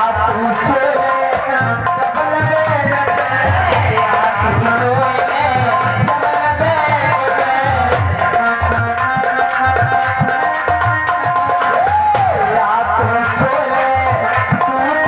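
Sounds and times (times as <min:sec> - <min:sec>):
hand drum beating: 0:00.3 - 0:12.6.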